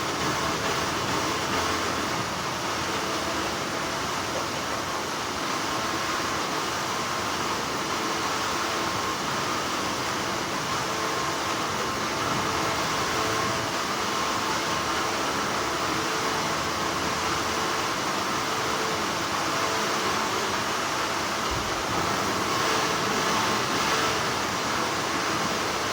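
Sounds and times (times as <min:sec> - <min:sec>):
factory machinery humming: 0:00.0 - 0:25.9.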